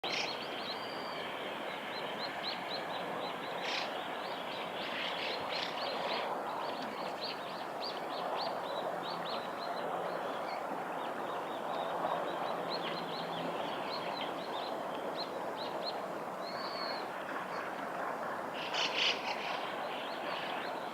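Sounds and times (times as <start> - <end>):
small river running: 0.0 - 20.9.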